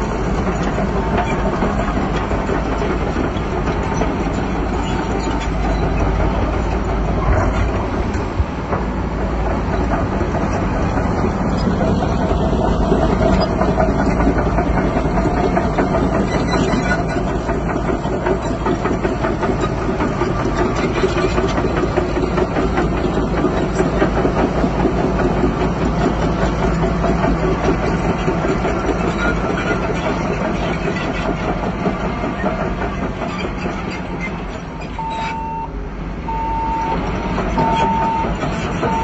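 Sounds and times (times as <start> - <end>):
bulldozer diesel engine rumbling: 0.0 - 39.0.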